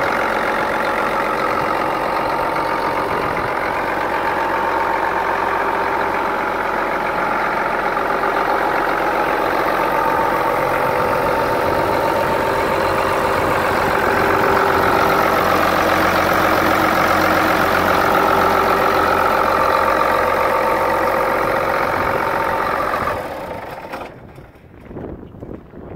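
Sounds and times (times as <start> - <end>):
tractor diesel engine idling: 0.0 - 25.5.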